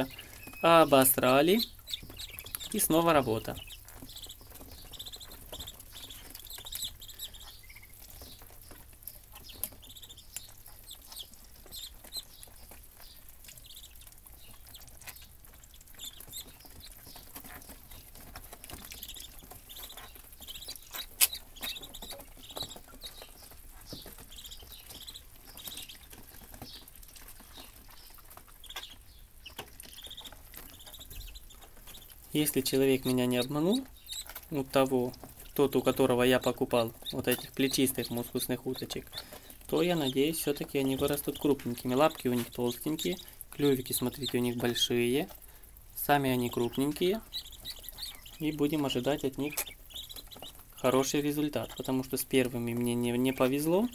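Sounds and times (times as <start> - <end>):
ducklings peeping: 0.0 - 53.9.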